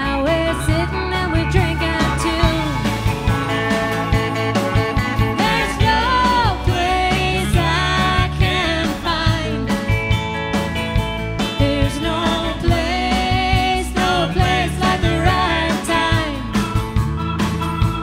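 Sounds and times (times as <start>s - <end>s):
country song with guitar: 0.0s - 18.0s.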